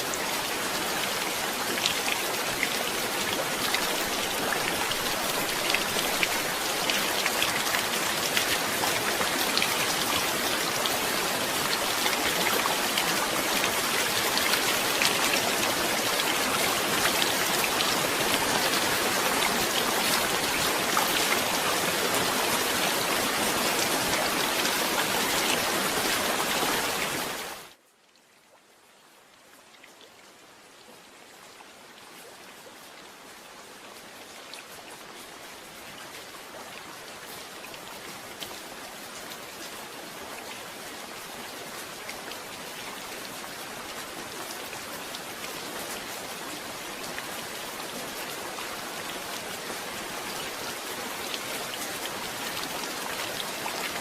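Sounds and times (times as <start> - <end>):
heavy rain: 0.0 - 27.9, 28.5 - 54.0.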